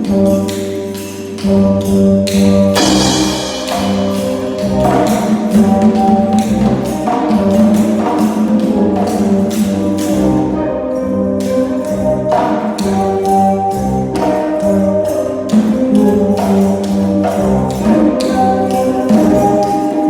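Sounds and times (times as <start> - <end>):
held brass-like chords: 0.0 - 20.0
tapped percussion beat: 0.0 - 20.0.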